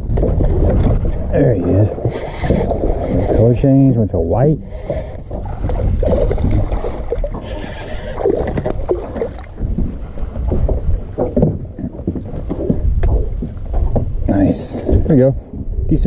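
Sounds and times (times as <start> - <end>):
uneven water splashing: 0.0 - 15.9
water noise: 0.0 - 16.0
wind rumbling on microphone: 0.0 - 16.0.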